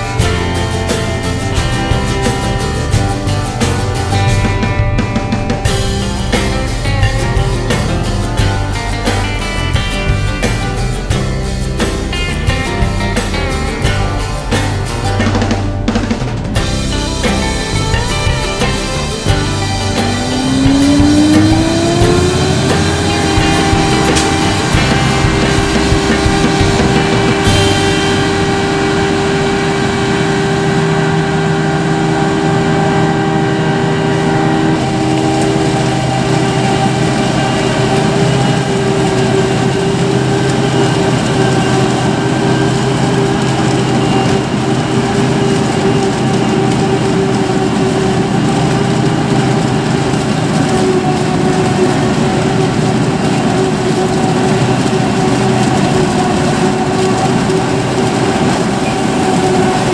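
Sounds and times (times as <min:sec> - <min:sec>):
constant machine whine: 0:00.0 - 0:59.9
forage harvester engine drone: 0:00.0 - 0:59.9
tractor pulling trailer: 0:00.0 - 0:59.9.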